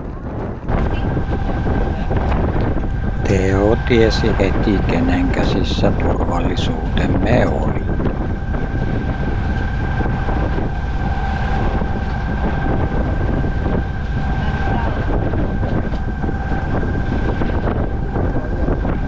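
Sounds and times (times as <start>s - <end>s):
low engine rumble: 0.0s - 19.0s
wind buffeting microphone: 0.0s - 19.0s
faint high whine: 0.5s - 19.0s.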